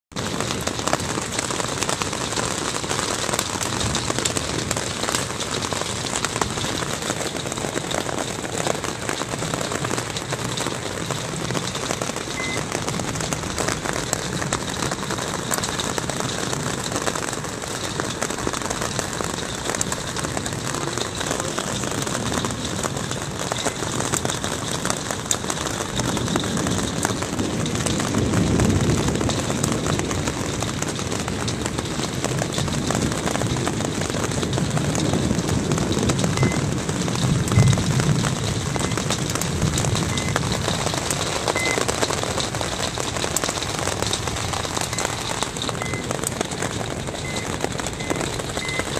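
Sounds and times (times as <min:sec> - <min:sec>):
hail drumming on roof: 0:00.1 - 0:48.9.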